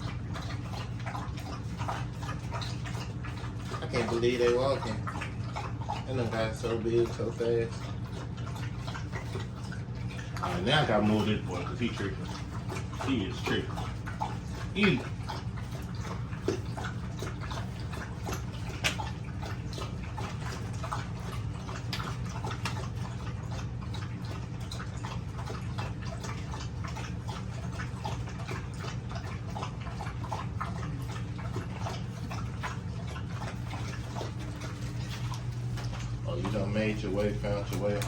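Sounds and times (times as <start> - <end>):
puppies eating and lapping: 0.0 - 38.0.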